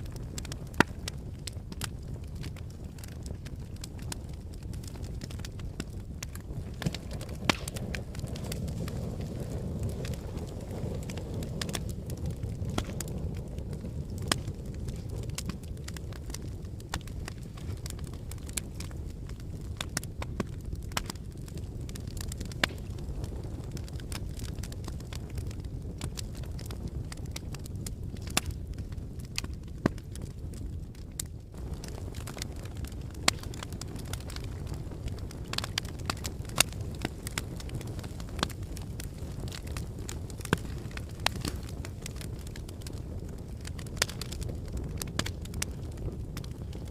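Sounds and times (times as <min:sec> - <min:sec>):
fire crackles and pops: 0:00.0 - 0:46.9
fire flames rumbling: 0:00.0 - 0:46.9.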